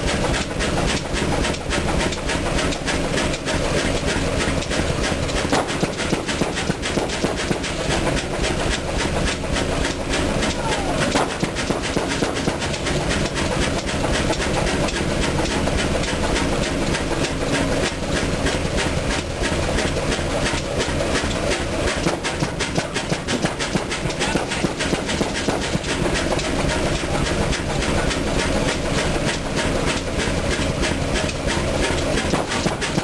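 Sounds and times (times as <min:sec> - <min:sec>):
diesel engine running: 0:00.0 - 0:33.0
fast even clicks and knocks: 0:00.0 - 0:33.0.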